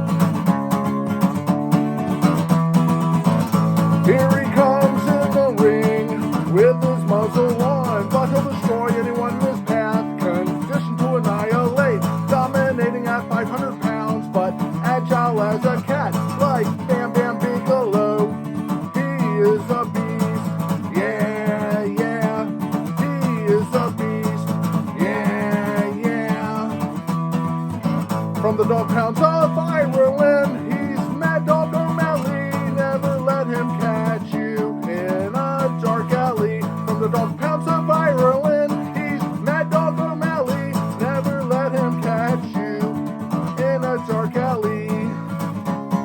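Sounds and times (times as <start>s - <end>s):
strummed acoustic guitar: 0.0s - 46.0s.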